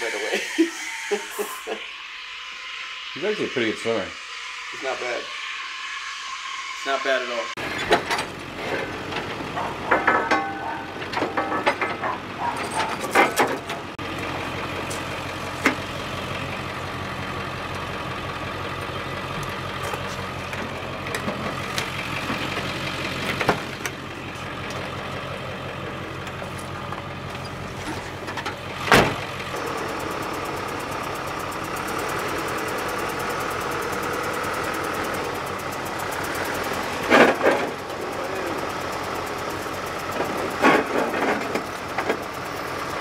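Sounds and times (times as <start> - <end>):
pickup truck engine idling: 7.6 - 43.0
trailer ramps clattering: 7.6 - 43.0.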